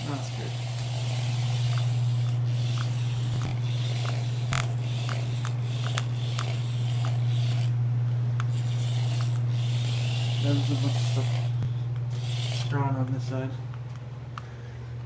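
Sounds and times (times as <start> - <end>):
ride-on vehicle humming: 0.0 - 14.0.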